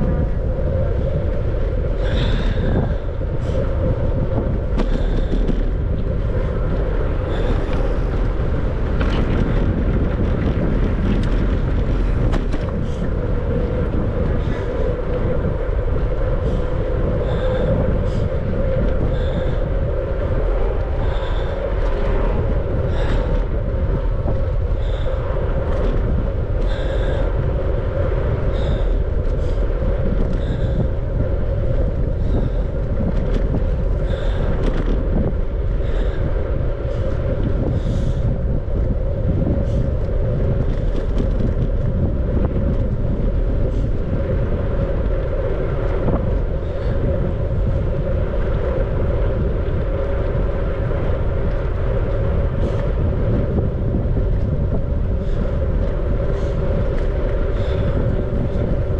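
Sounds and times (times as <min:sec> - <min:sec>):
bicycle tyre hum: 0:00.0 - 0:58.9
wind buffeting microphone: 0:00.0 - 0:58.9.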